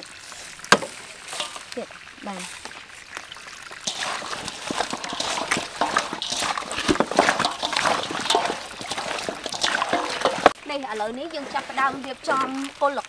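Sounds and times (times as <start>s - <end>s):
wet squelching of meat in a bowl: 0.0s - 13.0s.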